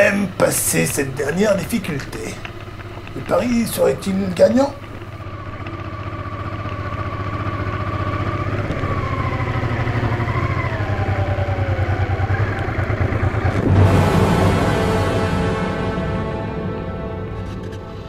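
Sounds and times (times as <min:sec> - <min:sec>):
motorcycle engine at low revs: 0:00.0 - 0:14.6.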